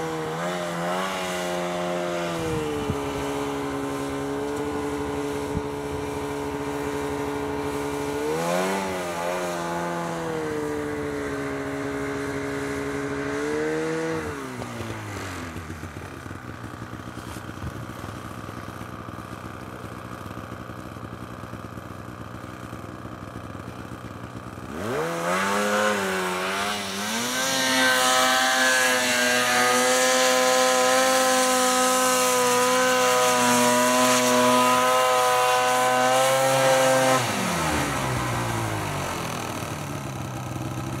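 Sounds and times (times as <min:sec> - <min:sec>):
snowmobile engine revving: 0:00.0 - 0:41.0.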